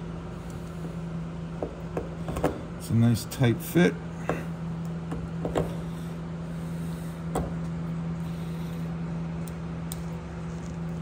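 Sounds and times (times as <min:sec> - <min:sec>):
heater humming: 0:00.0 - 0:11.0.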